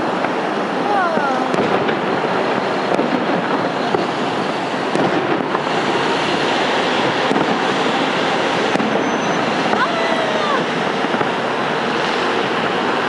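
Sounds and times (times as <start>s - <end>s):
fireworks bursting: 0.0s - 13.0s
sharp firework cracks: 0.1s - 13.0s.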